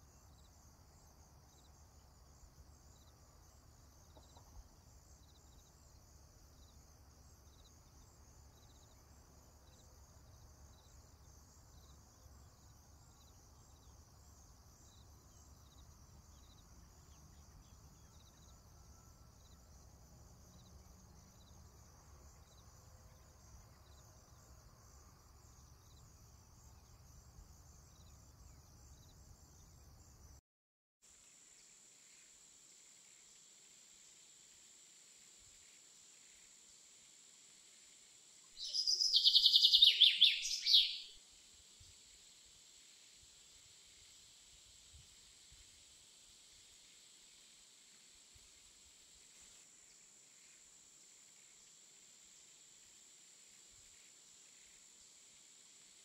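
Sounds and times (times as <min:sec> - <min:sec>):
insects chirping: 0:00.0 - 0:30.4, 0:31.1 - 0:56.0.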